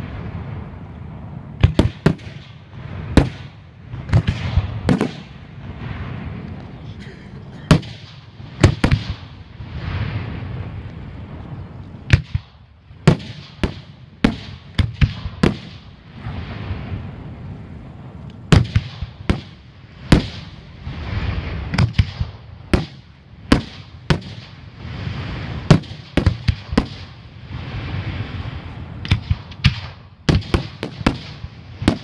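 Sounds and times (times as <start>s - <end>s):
fireworks bursting: 0.0s - 32.0s
fireworks display background noise: 0.0s - 32.0s.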